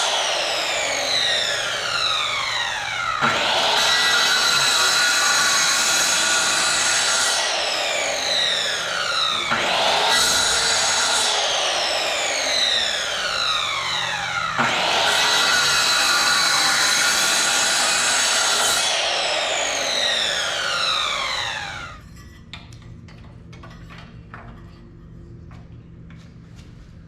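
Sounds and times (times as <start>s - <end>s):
electric saw motor whine: 0.0s - 22.0s.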